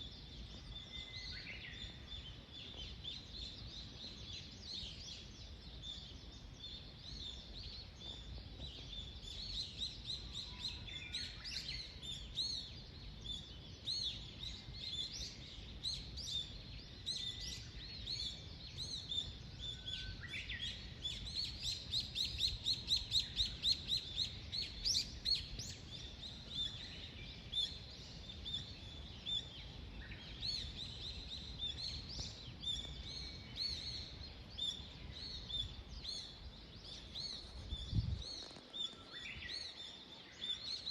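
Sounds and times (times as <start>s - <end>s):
songbirds chirping and singing: 0.1s - 40.9s.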